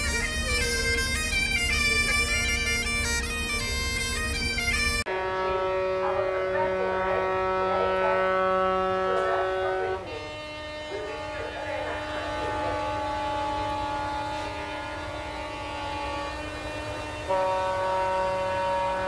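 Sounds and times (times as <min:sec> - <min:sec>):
bagpipe drones: 0:00.0 - 0:19.0
bagpipes playing a tune: 0:00.0 - 0:19.0.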